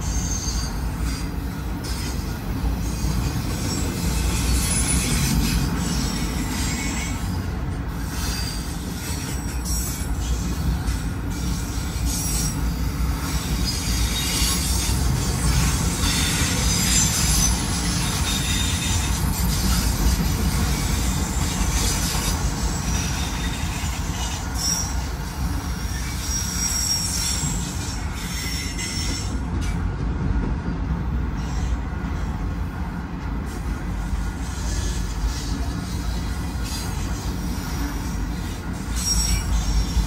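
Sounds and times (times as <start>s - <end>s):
high-pitched wheel squeals: 0.0s - 7.4s, 8.0s - 29.4s, 34.4s - 40.0s
train wheels rumbling on rail: 0.0s - 40.0s.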